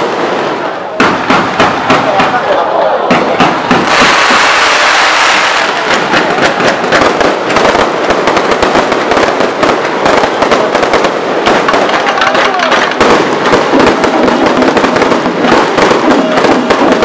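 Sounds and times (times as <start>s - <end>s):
firework fountains hissing: 0.0s - 17.0s
fireworks crackling and popping: 0.0s - 17.0s.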